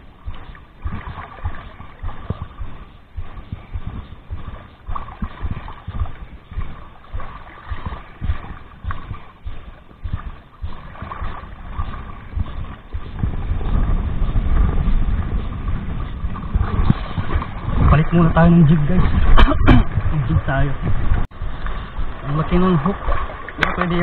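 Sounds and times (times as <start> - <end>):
small waves lapping: 0.0 - 24.0
wind rumble on microphone: 0.0 - 24.0.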